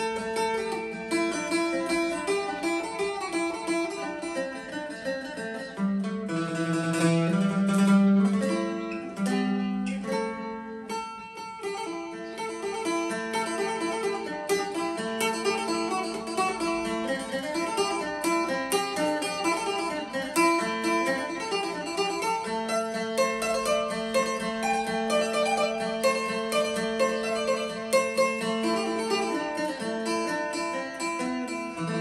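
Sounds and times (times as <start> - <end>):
lute fast picked melody: 0.0 - 32.0.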